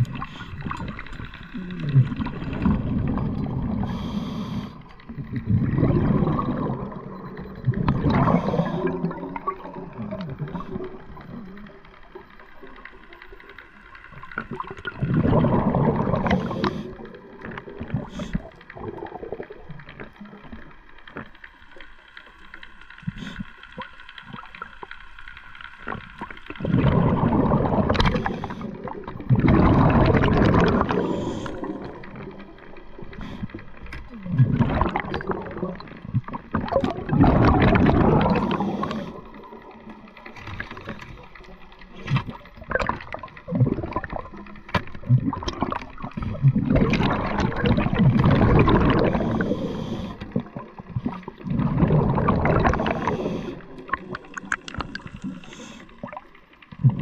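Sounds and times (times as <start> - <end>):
exhaled bubbles gurgling underwater: 0.0 - 57.0.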